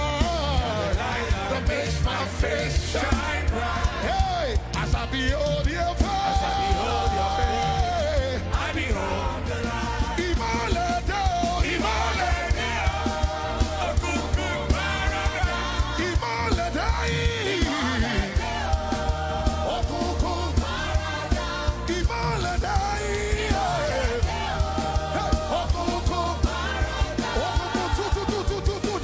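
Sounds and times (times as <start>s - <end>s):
band playing gospel music: 0.0s - 29.0s
person singing: 0.0s - 29.0s.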